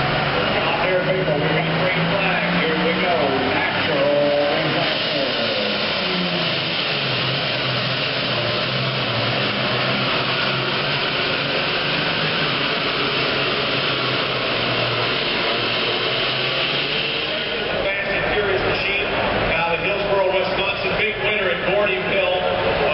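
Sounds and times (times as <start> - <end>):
tractor diesel engine at full throttle: 0.0 - 22.9.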